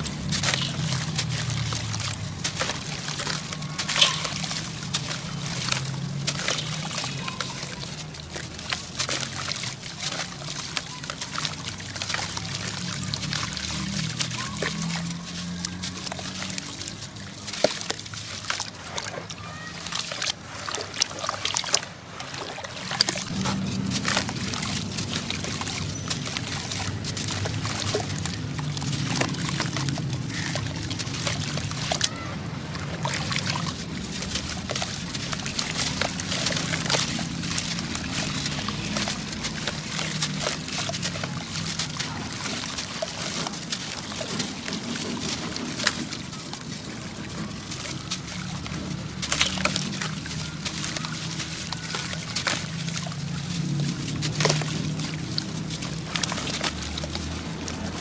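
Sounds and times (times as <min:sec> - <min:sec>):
crumbling grains trickling: 0:00.0 - 0:58.0.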